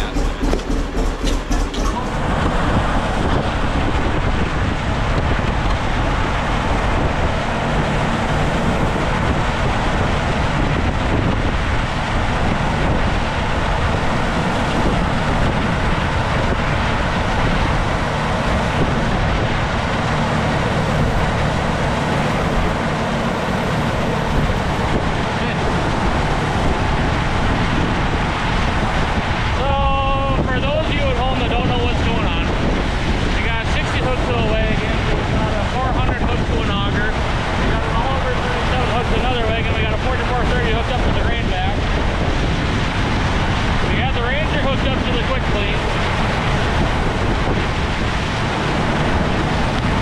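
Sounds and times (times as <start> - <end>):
farm machinery running: 0.0 - 50.0
wind on microphone: 0.0 - 50.0.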